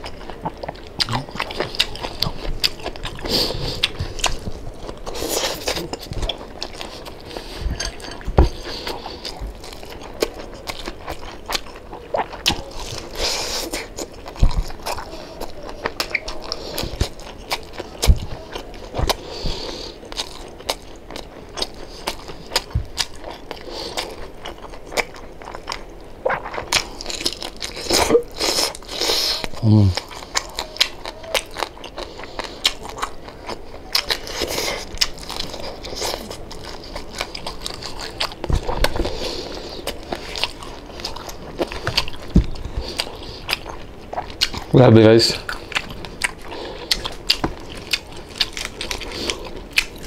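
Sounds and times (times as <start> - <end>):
chewing: 0.0 - 50.0
crispy skin crunching: 0.0 - 50.0.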